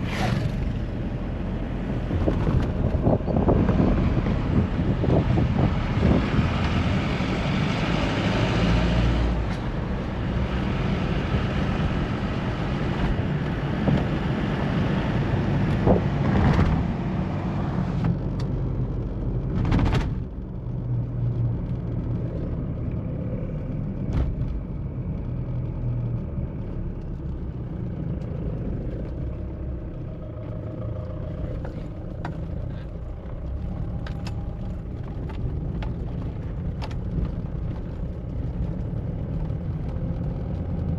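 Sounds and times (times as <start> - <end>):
diesel engine rumble while driving: 0.0 - 40.9.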